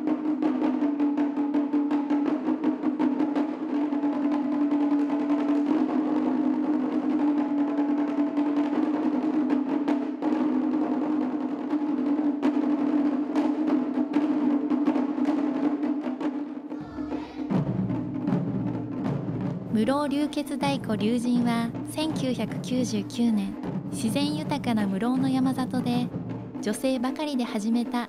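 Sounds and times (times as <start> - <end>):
small taiko drums struck rapidly: 0.0 - 28.0.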